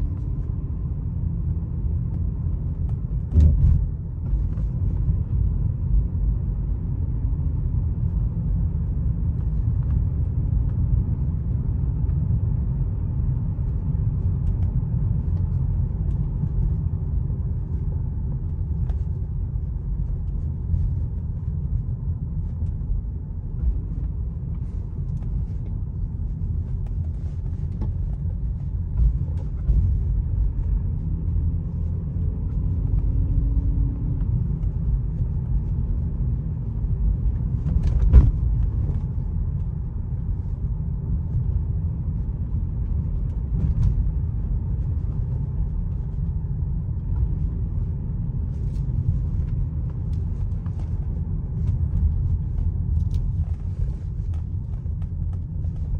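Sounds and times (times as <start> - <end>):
engine and road rumble: 0.0 - 55.9.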